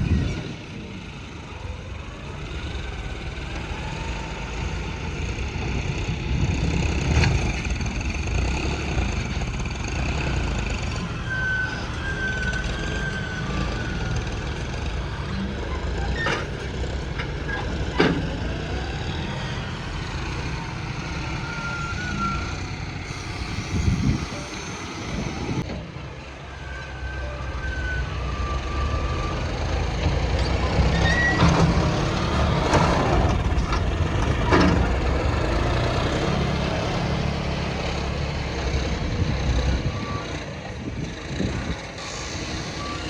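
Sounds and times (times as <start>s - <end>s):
heavy diesel machinery running: 0.0s - 43.0s.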